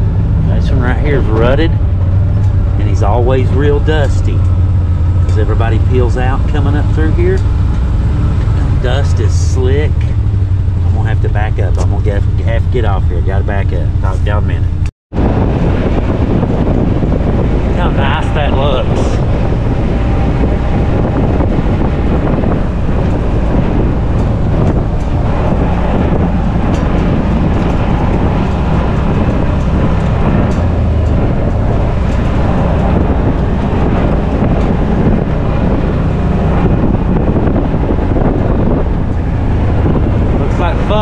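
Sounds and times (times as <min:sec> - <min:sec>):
vehicle engine running: 0:00.0 - 0:41.0
wind on microphone: 0:00.0 - 0:41.0.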